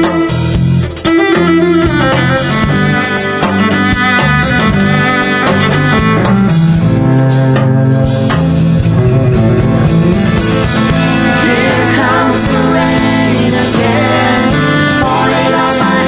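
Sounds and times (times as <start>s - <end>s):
slow pop ballad with guitar: 0.0s - 16.0s.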